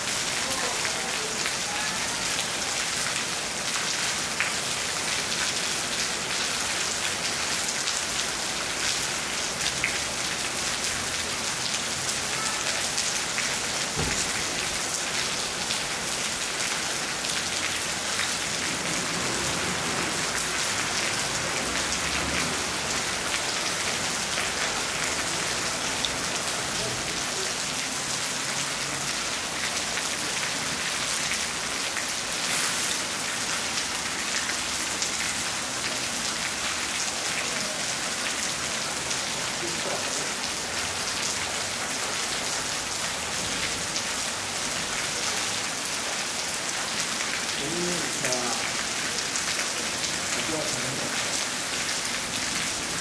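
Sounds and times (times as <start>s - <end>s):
rain falling on rooftops: 0.0s - 53.0s.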